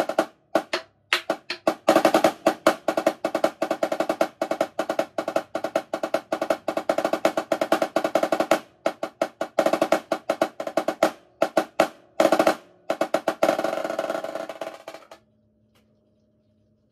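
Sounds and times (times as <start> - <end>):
marching snare drum: 0.0 - 15.2.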